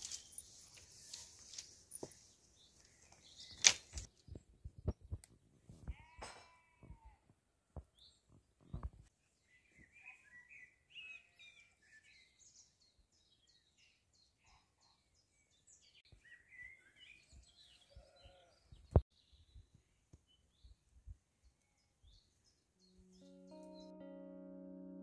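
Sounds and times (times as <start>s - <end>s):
songbirds chirping and trilling: 0.0s - 5.1s, 7.8s - 24.1s.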